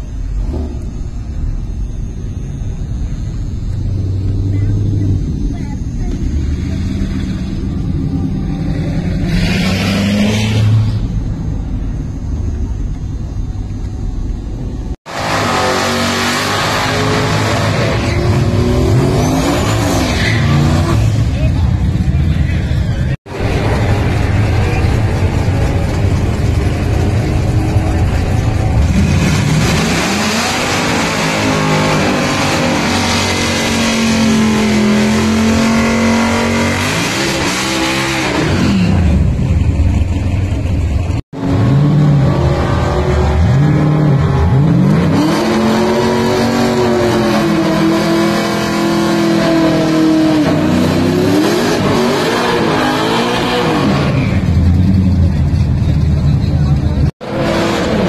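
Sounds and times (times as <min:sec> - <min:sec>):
drag racing car engines revving: 0:00.0 - 0:58.0.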